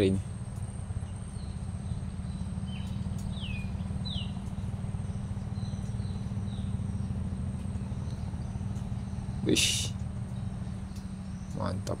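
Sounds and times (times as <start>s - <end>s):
high insect drone: 0.0s - 11.8s.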